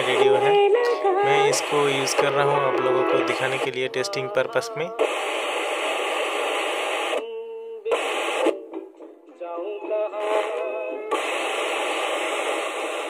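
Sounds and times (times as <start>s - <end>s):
radio static hiss: 0.0s - 8.9s, 10.1s - 13.0s
snatches of radio music and singing: 0.0s - 13.0s.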